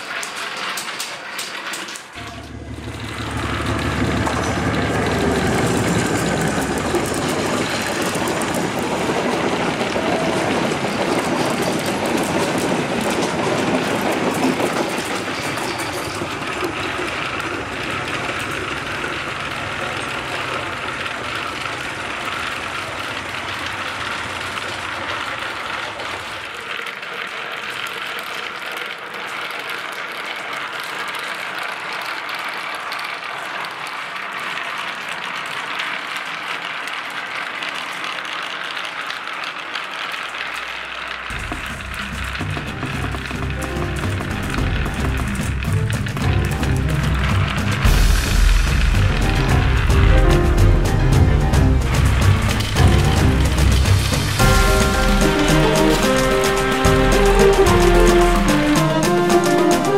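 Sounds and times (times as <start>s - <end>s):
marbles rolling on wooden tracks: 0.0s - 59.9s.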